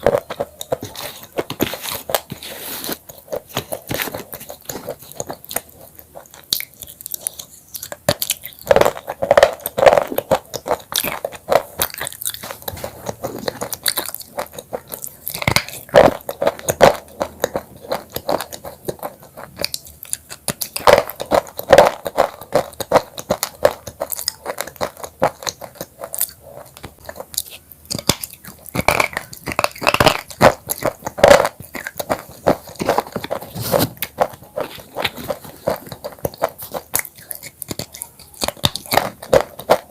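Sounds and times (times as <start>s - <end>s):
crunchy chips being chewed: 0.0s - 39.9s.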